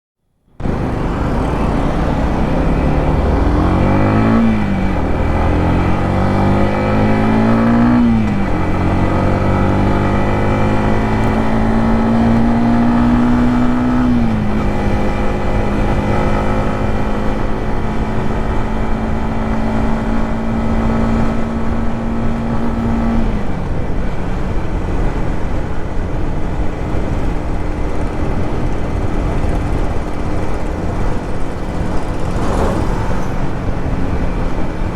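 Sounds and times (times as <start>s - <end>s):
motorcycle engine revving through gears: 0.6s - 34.9s.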